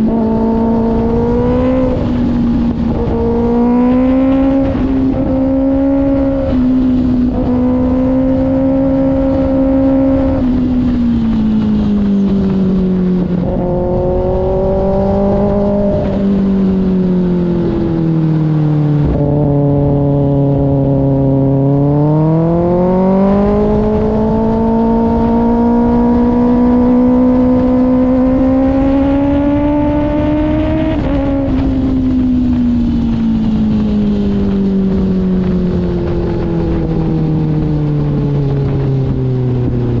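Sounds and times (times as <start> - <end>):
motorcycle engine revving high: 0.0 - 40.0.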